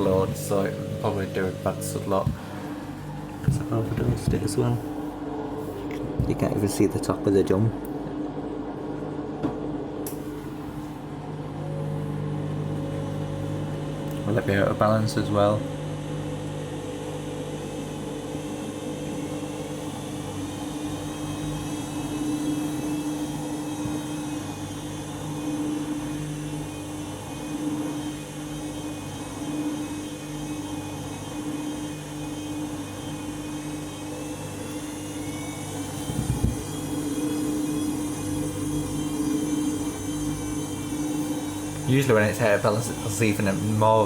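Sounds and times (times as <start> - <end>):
washing machine motor and pump hum: 0.0 - 44.0.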